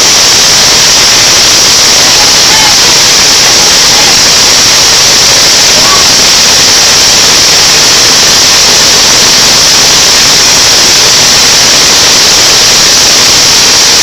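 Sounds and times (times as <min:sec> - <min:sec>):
blower rushing air hiss: 0:00.0 - 0:14.0.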